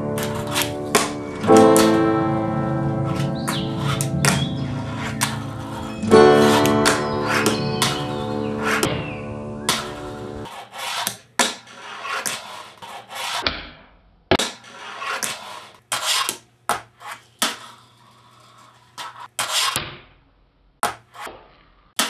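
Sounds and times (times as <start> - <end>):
fingerboard wheels rolling: 0.0 - 13.4, 14.6 - 16.4, 17.0 - 19.7.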